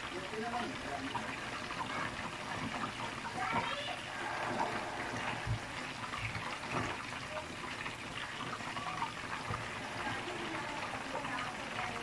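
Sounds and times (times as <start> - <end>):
oil bubbling and sizzling: 0.0 - 12.0.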